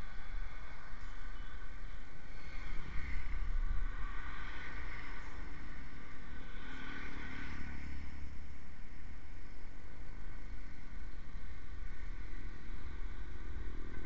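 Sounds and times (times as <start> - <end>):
motorcycle engine rumble: 0.0 - 14.0.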